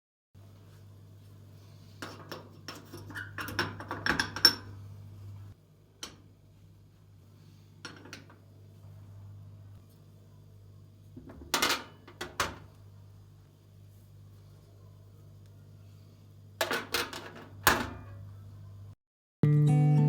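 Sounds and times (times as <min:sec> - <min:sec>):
steady low hum: 0:00.4 - 0:16.8.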